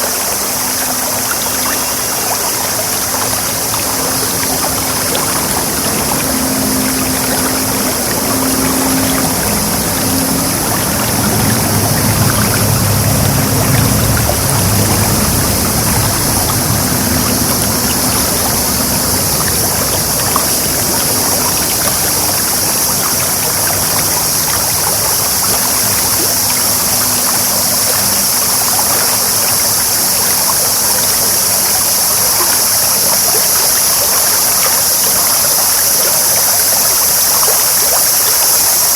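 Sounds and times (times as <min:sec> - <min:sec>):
low engine hum: 0:00.0 - 0:36.1
stream babbling: 0:00.0 - 0:38.9.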